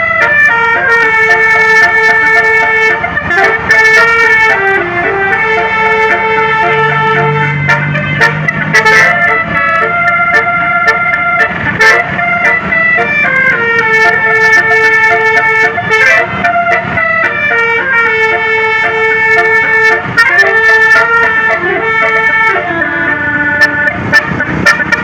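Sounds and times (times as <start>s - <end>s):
bus musical horn playing a tune: 0.0s - 25.0s.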